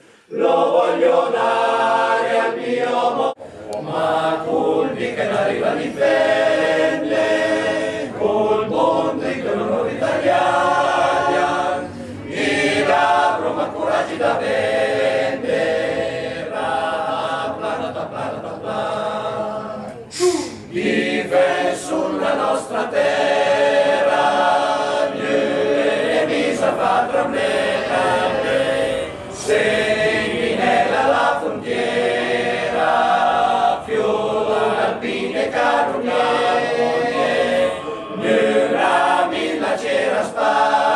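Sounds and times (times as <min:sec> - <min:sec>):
male voice choir singing: 0:00.3 - 0:20.0, 0:20.6 - 0:40.9.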